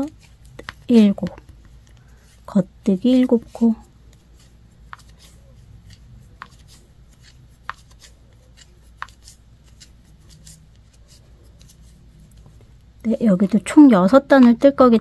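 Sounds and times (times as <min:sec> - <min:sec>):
rustle of yarn and hands: 0:00.0 - 0:13.6.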